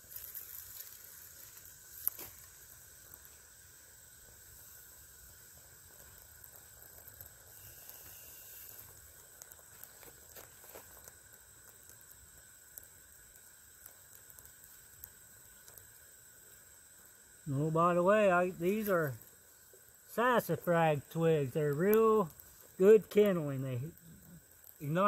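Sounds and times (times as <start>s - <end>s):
small fire crackling: 0.0s - 25.0s
steady hiss: 0.0s - 25.0s.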